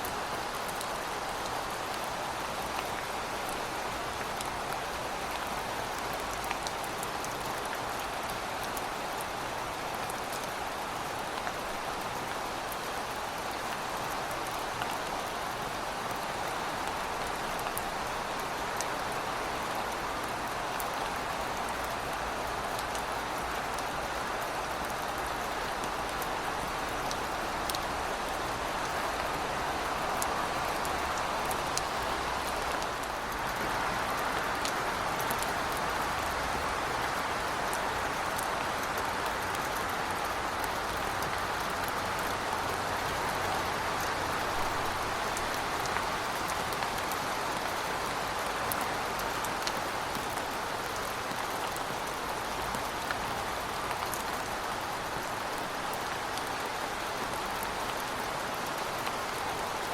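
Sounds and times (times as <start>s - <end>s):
raindrops ticking on a surface: 0.0s - 59.9s.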